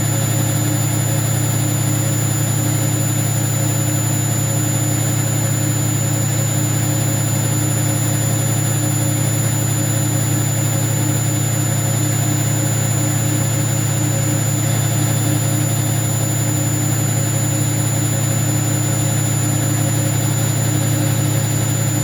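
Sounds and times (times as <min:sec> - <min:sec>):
washing machine droning: 0:00.0 - 0:22.0.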